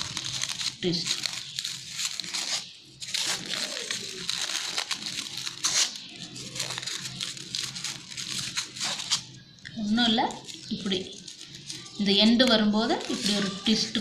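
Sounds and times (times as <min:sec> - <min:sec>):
crepe paper crinkling: 0:00.0 - 0:09.4, 0:10.2 - 0:14.0.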